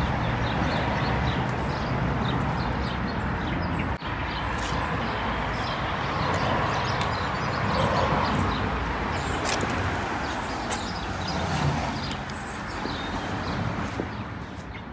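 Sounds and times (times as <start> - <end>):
road traffic noise: 0.0 - 14.9.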